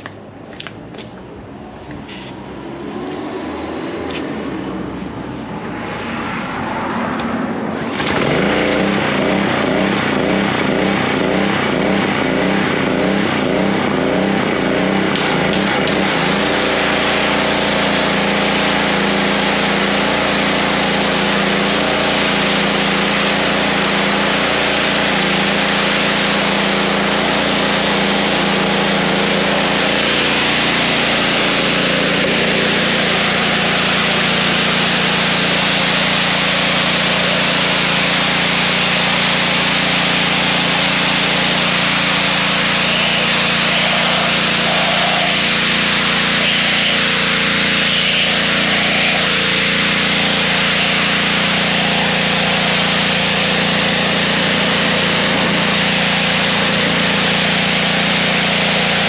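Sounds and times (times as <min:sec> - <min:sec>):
pressure washer motor hum: 0:07.1 - 0:59.0
water jet spraying onto concrete: 0:07.9 - 0:59.0.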